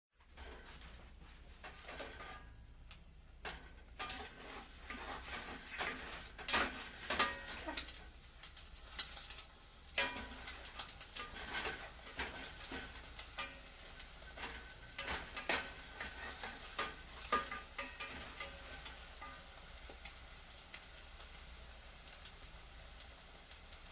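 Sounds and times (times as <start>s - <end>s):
utensils clinking on pots and dishes: 0.2s - 2.7s, 3.4s - 21.3s.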